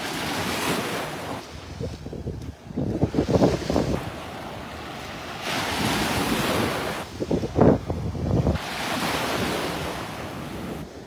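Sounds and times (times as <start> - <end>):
small surf washing on shore: 0.0 - 11.0
wind buffeting microphone: 0.4 - 11.0.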